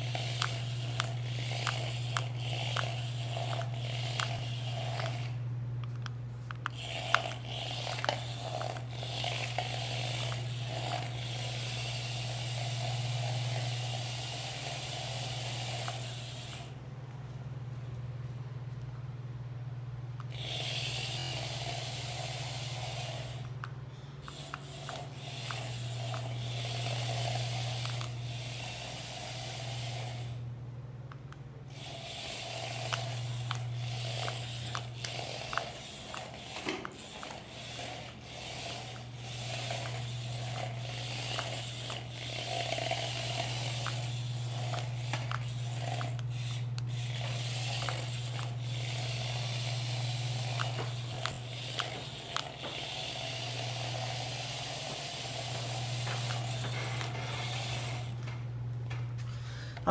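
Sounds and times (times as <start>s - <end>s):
toy motor humming: 0.0s - 16.8s, 20.2s - 30.6s, 31.6s - 58.6s, 59.3s - 59.9s.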